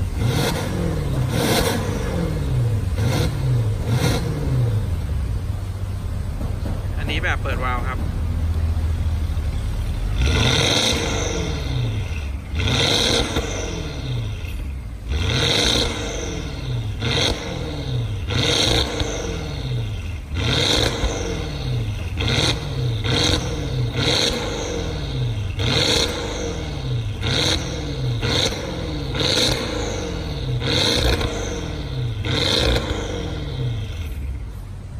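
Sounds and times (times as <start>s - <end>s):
car engine revving: 0.0s - 34.5s.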